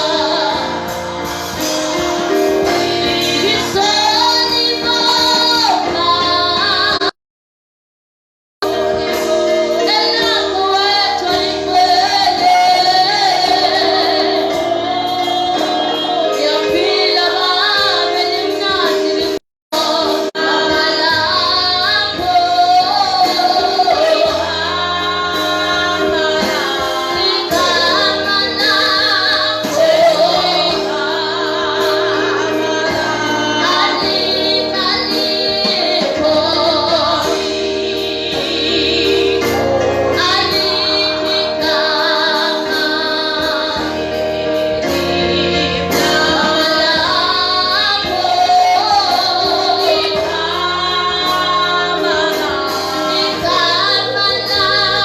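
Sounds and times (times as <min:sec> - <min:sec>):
women singing gospel: 0:00.0 - 0:07.2, 0:08.6 - 0:55.0.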